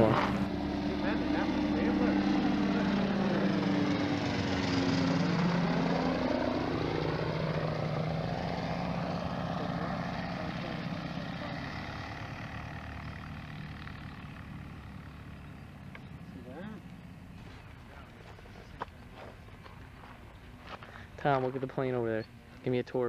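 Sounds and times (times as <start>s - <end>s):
ultralight aircraft engine passing: 0.0s - 22.8s.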